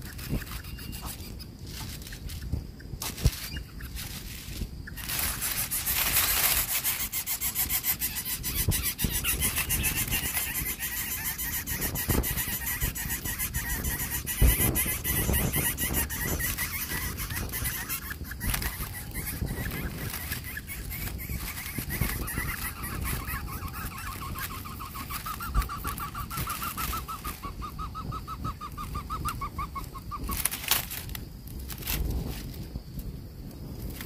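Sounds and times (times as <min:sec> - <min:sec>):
chicks begging rasping and ticking: 0:00.0 - 0:31.2.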